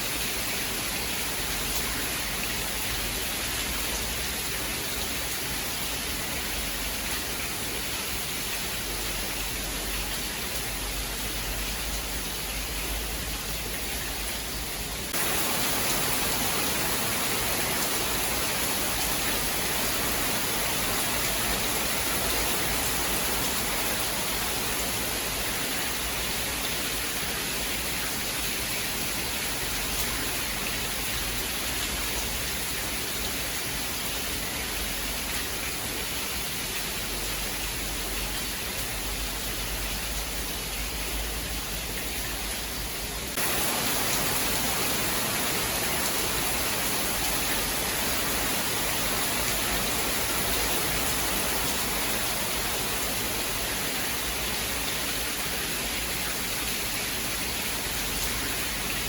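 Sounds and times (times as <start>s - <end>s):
rain hissing: 0.0s - 33.9s, 36.8s - 59.0s.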